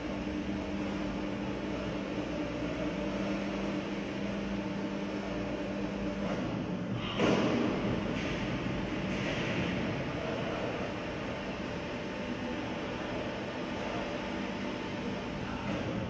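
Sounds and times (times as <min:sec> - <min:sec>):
car lift hum: 0:00.0 - 0:16.0.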